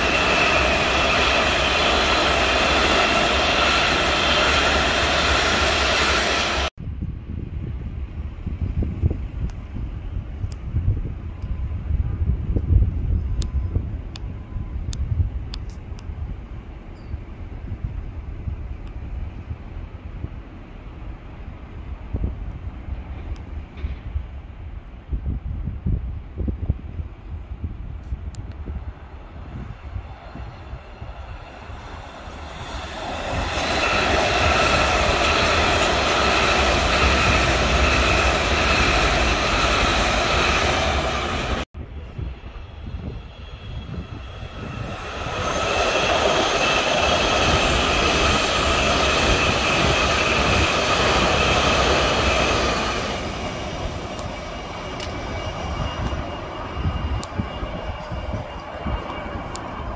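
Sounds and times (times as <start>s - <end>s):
train high whine: 0.0s - 59.9s
train wheel and track rumble: 0.0s - 59.9s.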